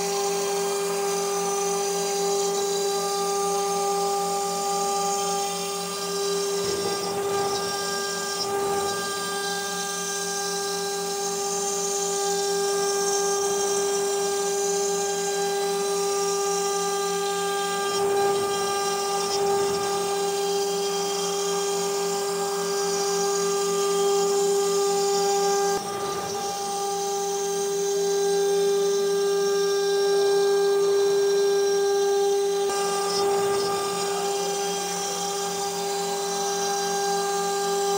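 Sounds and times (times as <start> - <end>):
cnc router spindle whine: 0.0 - 37.9.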